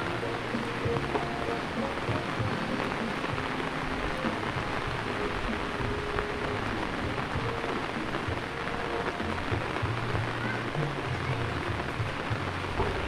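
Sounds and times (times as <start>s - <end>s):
heavy rain on road: 0.0s - 13.0s.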